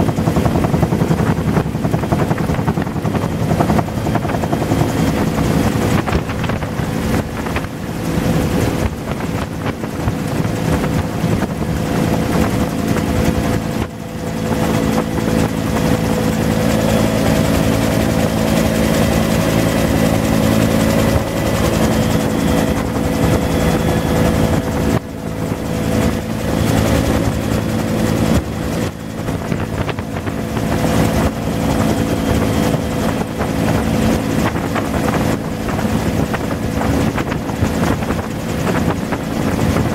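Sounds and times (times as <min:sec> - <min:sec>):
helicopter rotor and turbine: 0:00.0 - 0:39.9
wind buffeting microphone: 0:00.0 - 0:39.9.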